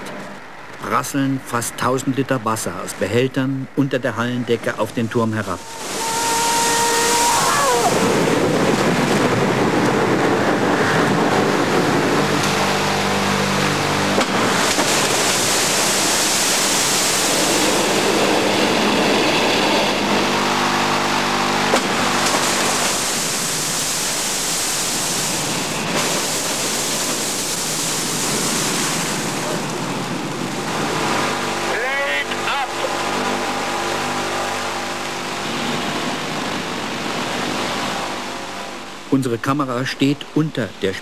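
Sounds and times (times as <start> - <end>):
low machine hum: 0.0 - 41.0
wind machines blowing spray: 3.8 - 40.8
water crashing down: 5.2 - 39.2.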